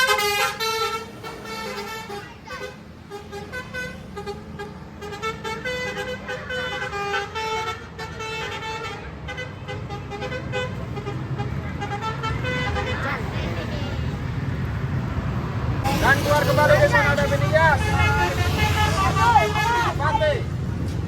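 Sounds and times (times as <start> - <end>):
multi-tone bus horn melody: 0.0 - 13.3, 15.9 - 20.3
bus engine rumbling: 0.0 - 21.0.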